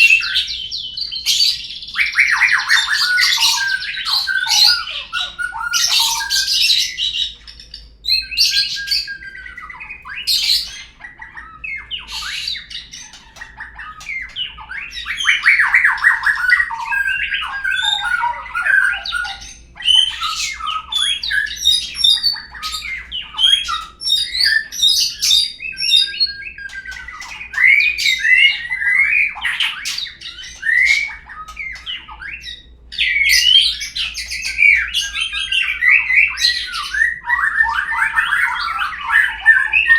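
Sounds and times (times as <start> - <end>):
bird song whistles and trills: 0.0 - 39.9.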